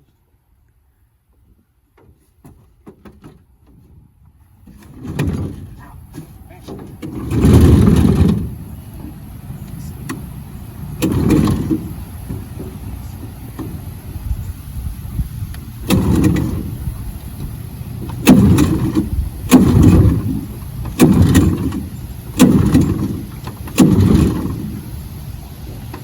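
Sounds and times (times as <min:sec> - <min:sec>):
outboard motor cranking: 0:04.6 - 0:26.0.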